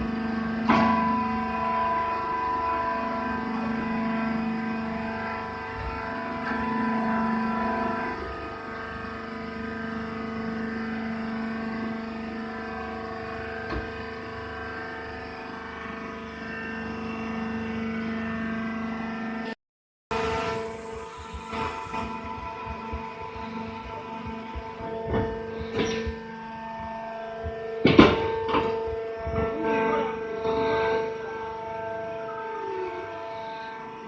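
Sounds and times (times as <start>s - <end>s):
hydraulic pump motor humming: 0.0s - 34.0s.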